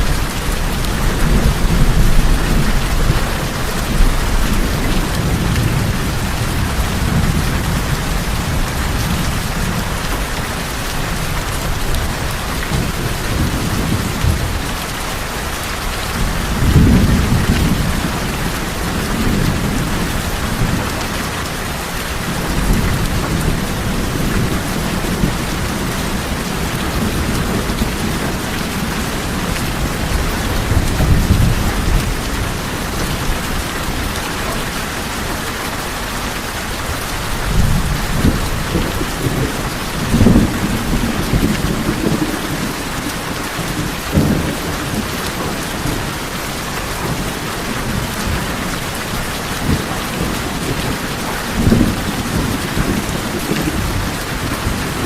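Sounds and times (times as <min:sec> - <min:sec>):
rain drumming on tin roofs: 0:00.0 - 0:55.0
thunder rumbling: 0:00.0 - 0:55.0.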